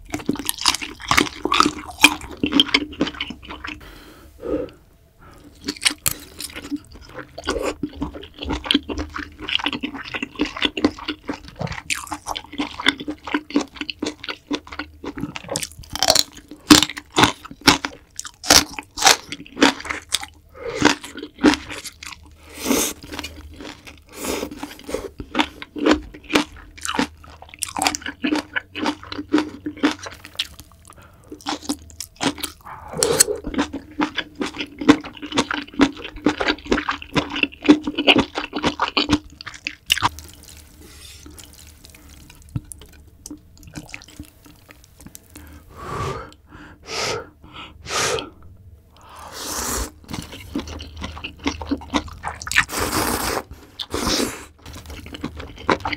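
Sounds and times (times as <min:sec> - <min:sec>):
person chewing crunchy food: 0:00.0 - 0:46.4, 0:48.2 - 0:55.9.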